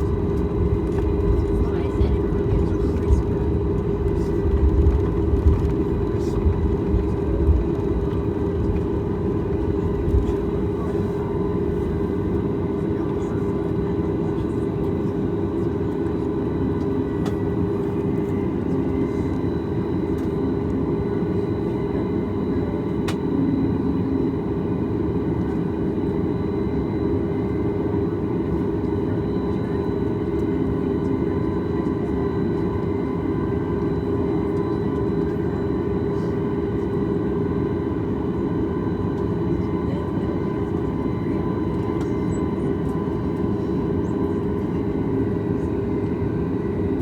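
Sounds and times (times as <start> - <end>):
airplane cabin engine drone: 0.0 - 47.0.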